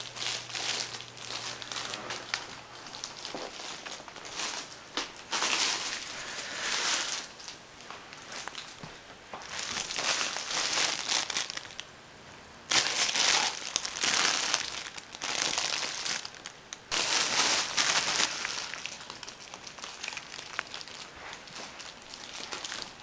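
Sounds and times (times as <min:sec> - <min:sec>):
fabric tunnel crinkling and rustling: 0:00.0 - 0:11.9, 0:12.6 - 0:23.0.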